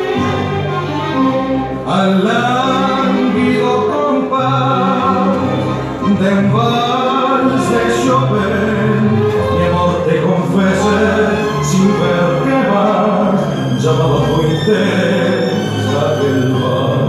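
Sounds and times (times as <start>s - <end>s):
tango music with singer and orchestra: 0.0s - 17.0s.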